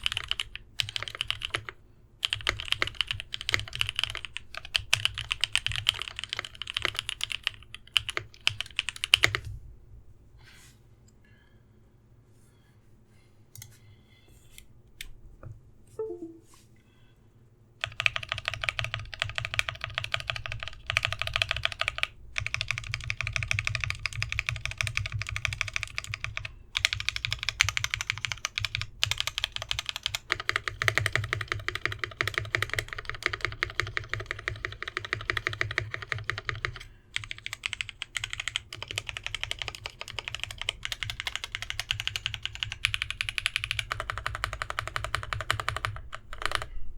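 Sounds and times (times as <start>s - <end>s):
mechanical keyboard typing: 0.0s - 9.4s, 17.8s - 46.7s.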